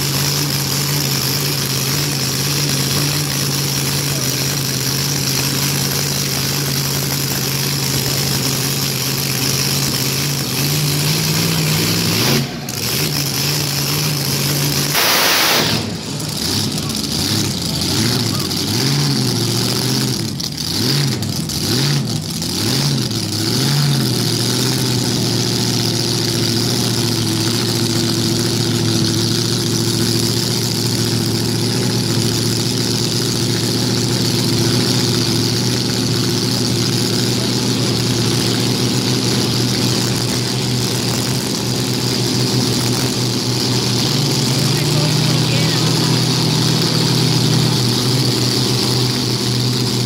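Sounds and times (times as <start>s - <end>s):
car engine revving and idling: 0.0s - 50.0s.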